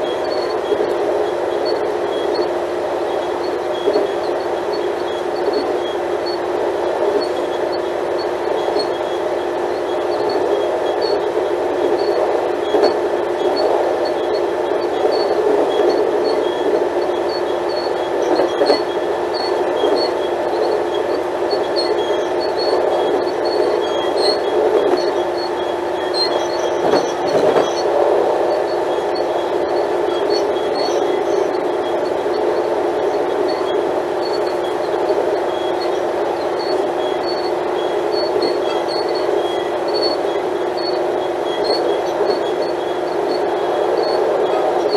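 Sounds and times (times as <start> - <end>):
train diesel engine humming: 0.0 - 44.9.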